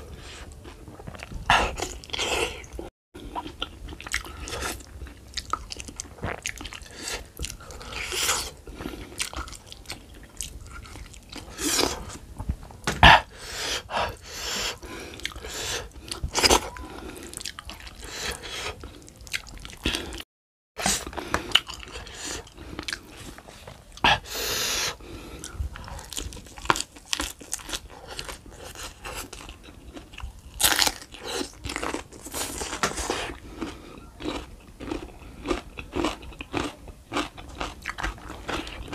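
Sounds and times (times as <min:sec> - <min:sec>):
person chewing meat: 0:00.0 - 0:12.2, 0:13.0 - 0:20.2, 0:20.8 - 0:24.2, 0:24.8 - 0:38.9.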